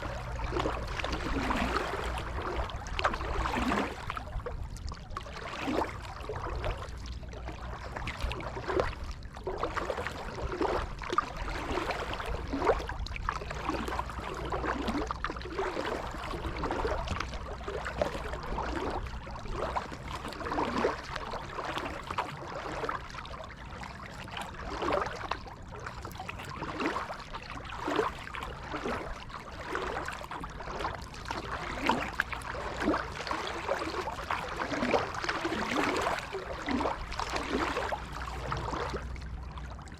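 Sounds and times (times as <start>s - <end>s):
paddle splashing in water: 0.0s - 39.9s
water dripping from paddle: 0.0s - 39.9s.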